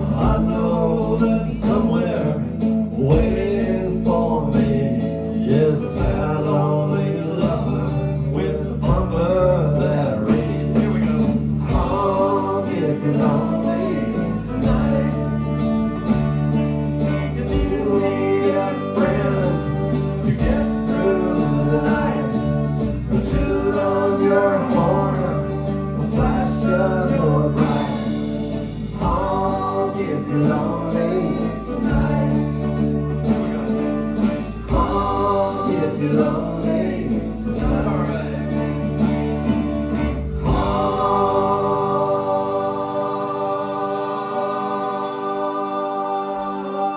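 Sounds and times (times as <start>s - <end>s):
bass line: 0.0s - 46.9s
guitar: 0.0s - 46.9s
person singing: 0.0s - 46.9s.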